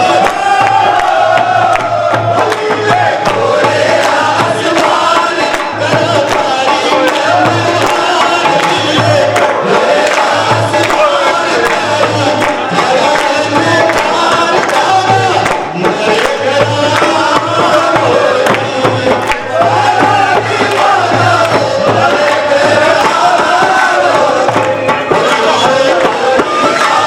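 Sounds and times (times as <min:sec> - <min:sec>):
group of voices singing: 0:00.0 - 0:27.0
repeating drum beat: 0:00.0 - 0:27.0.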